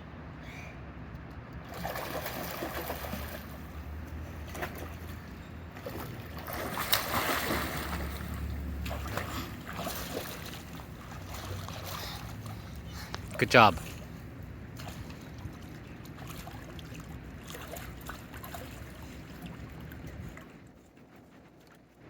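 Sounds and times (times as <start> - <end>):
pool water splashing: 1.6 - 20.8.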